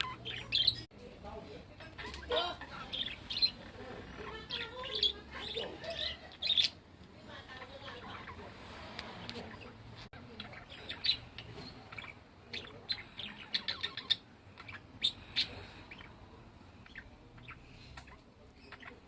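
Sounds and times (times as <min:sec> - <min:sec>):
parrot chirping: 0:00.0 - 0:00.9, 0:01.8 - 0:19.0.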